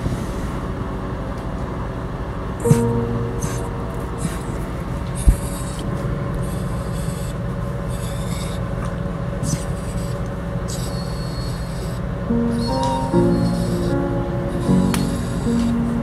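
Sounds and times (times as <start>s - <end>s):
steady low hum: 0.0s - 10.8s, 11.6s - 16.0s
dog breathing heavily: 2.6s - 16.0s.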